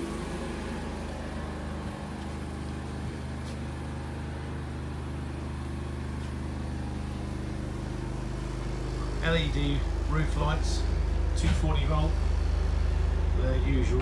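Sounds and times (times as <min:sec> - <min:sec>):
generator engine humming: 0:00.0 - 0:14.0.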